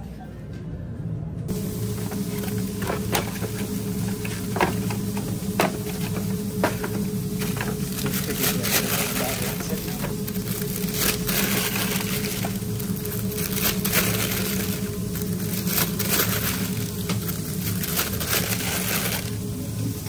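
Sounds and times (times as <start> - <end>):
steady low hum: 0.0 - 20.0
paper crinkling and rustling: 2.1 - 20.0.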